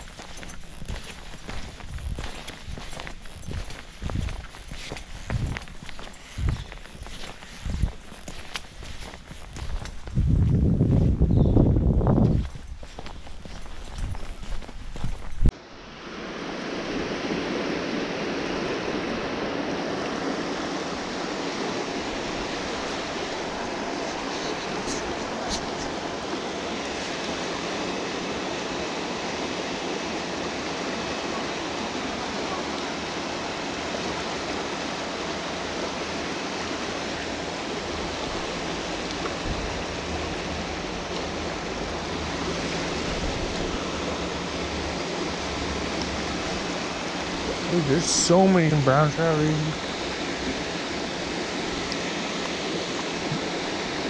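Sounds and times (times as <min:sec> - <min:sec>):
creek water rushing: 0:00.0 - 0:10.1, 0:15.6 - 0:54.0.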